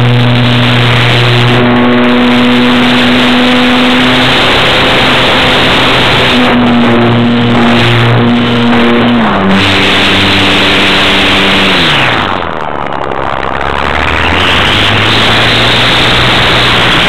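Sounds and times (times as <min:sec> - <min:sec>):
model plane motor drone: 0:00.0 - 0:17.0.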